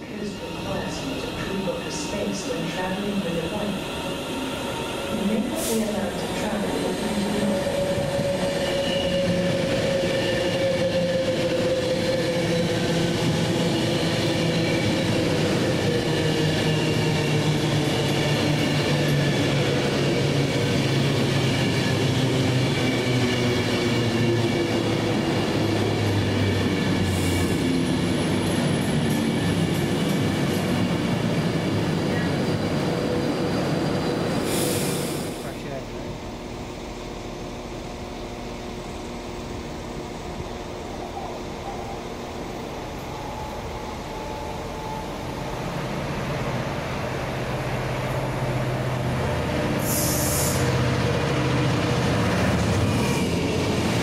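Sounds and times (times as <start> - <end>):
train slowing down: 0.0 - 54.0.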